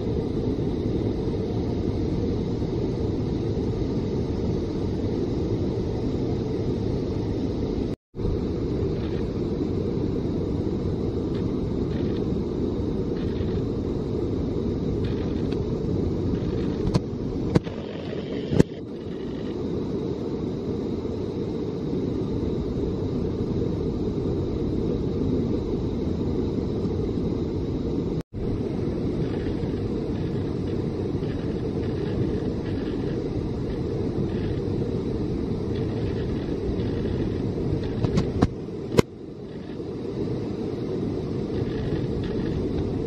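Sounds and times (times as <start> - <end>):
low rumbling noise: 0.0 - 43.0.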